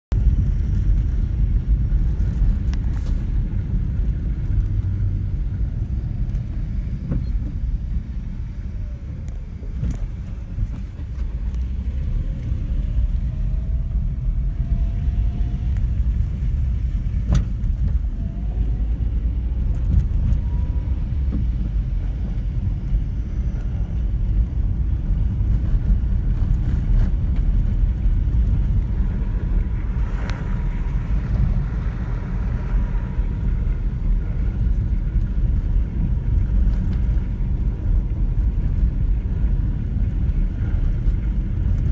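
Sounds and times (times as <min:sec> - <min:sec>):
car tyres and engine rumble: 0:00.1 - 0:41.9.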